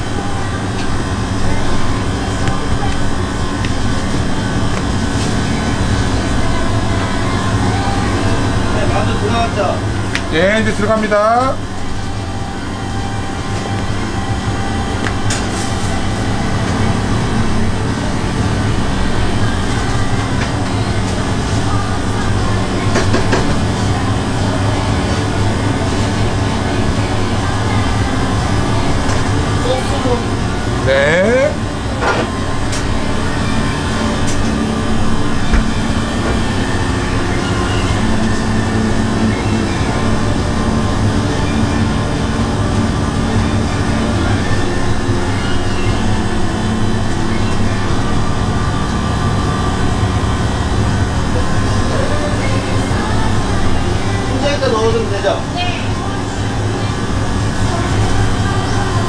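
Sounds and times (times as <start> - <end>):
low mechanical hum and rumble: 0.0 - 59.0.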